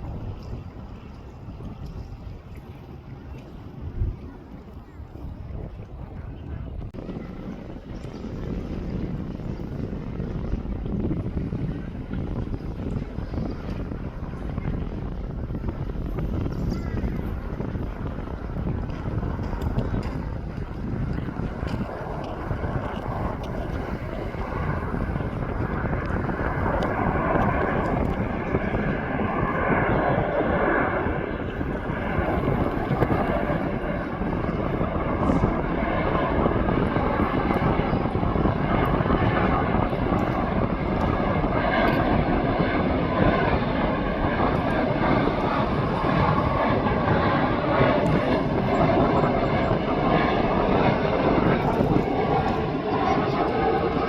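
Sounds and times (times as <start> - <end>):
airplane engines running: 0.0 - 54.0.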